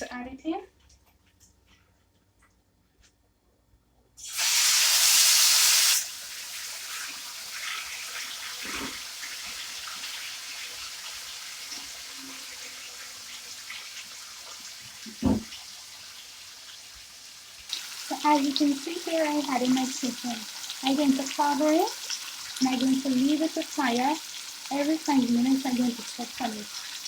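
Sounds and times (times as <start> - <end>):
chicken sizzling in hot oil: 4.2 - 27.0.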